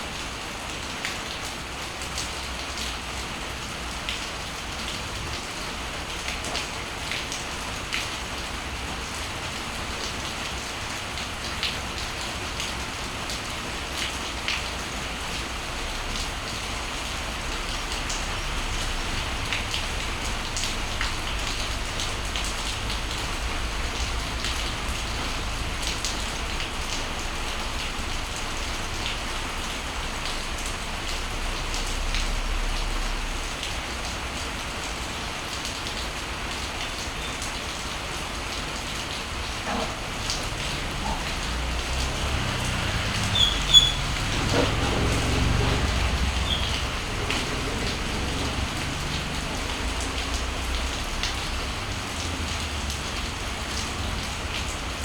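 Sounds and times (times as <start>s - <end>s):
raindrops striking close: 0.0s - 55.0s
steady rain: 0.0s - 55.0s.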